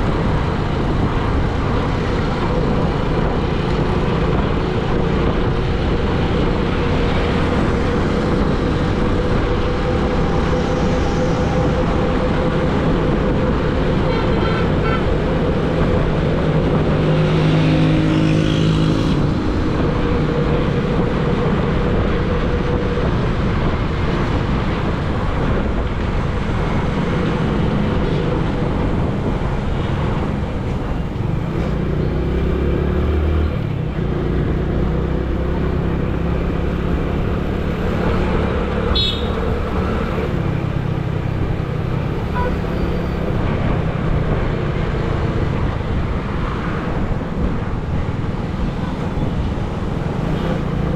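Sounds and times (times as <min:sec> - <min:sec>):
car and motorcycle engines: 0:00.0 - 0:50.9.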